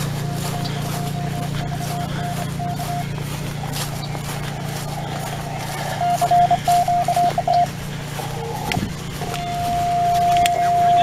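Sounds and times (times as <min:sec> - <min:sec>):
generator droning: 0:00.0 - 0:11.0
morse code beeping: 0:00.0 - 0:11.0.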